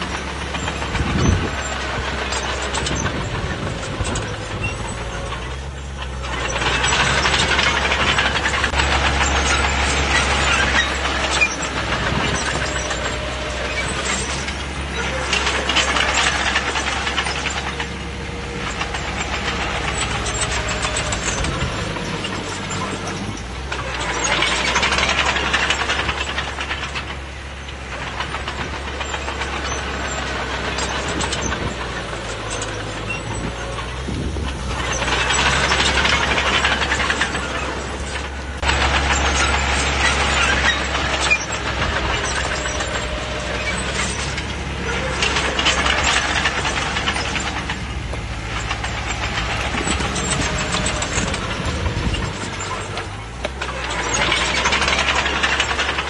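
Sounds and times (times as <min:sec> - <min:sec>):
bulldozer clatter: 0:00.0 - 0:56.0
bulldozer engine droning: 0:00.0 - 0:56.0.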